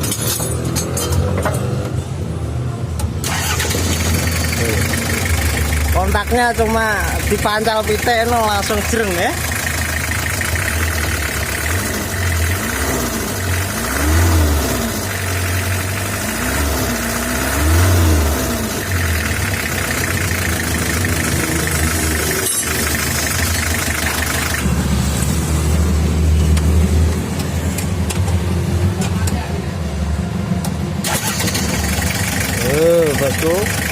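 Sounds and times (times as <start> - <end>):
diesel engine revving: 3.2 - 33.9.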